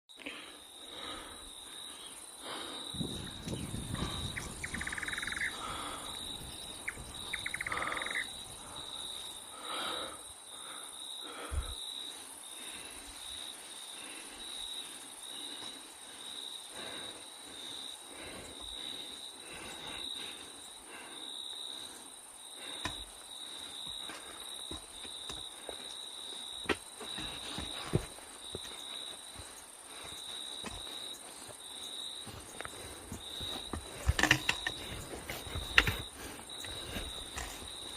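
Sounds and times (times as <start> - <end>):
pulsing insect trill: 0.2 - 37.9.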